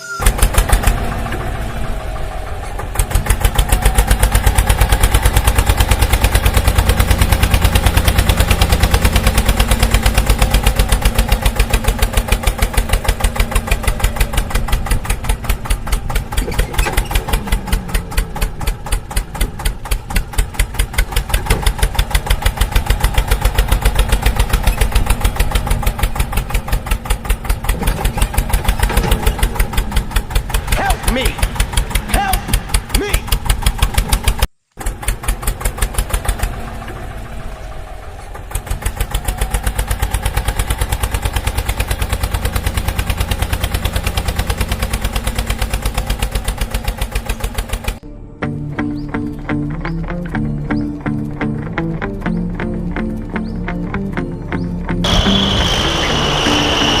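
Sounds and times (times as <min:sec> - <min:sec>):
tractor engine thumping: 0:00.0 - 0:48.0, 0:55.0 - 0:57.0.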